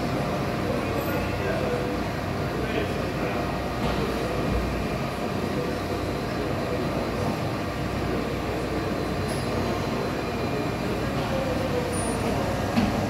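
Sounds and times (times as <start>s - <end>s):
machining center mechanical rumble: 0.0s - 13.0s.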